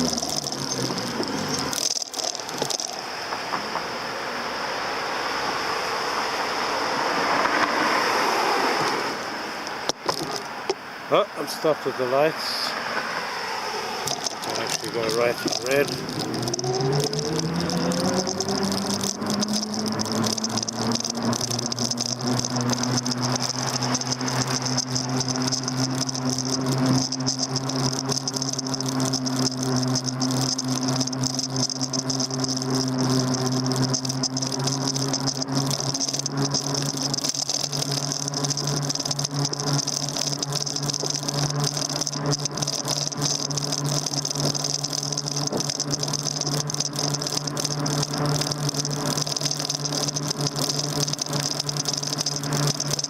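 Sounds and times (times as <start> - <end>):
bike rattling over road: 0.0 - 4.2, 6.7 - 10.8, 13.0 - 53.0
electric motor whining: 0.0 - 4.5, 6.2 - 53.0.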